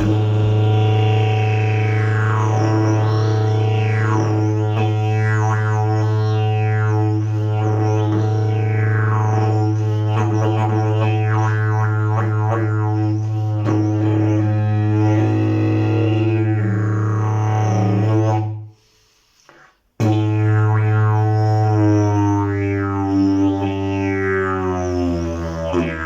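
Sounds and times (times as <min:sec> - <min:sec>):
didgeridoo drone with wah overtones: 0:00.0 - 0:18.6, 0:20.0 - 0:26.0.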